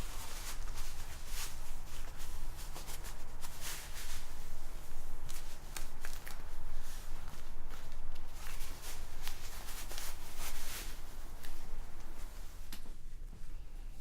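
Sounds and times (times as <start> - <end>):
close rustling and brushing: 0.0 - 14.0
low steady hum: 0.0 - 14.0.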